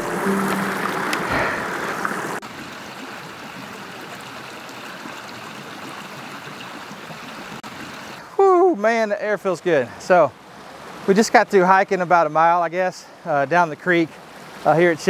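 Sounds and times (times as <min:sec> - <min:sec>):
creek water flowing over rocks: 0:00.0 - 0:15.0.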